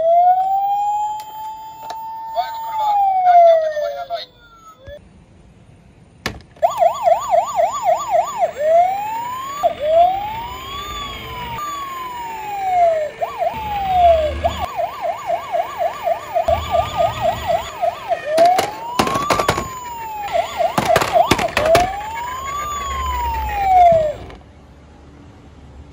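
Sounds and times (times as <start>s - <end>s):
electronic siren yelp and wail: 0.0s - 5.0s, 6.6s - 24.4s.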